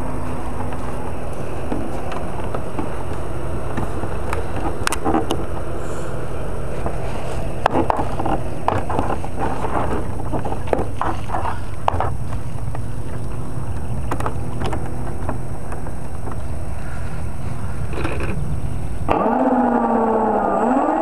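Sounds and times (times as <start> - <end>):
model boat motor droning: 0.0 - 21.0.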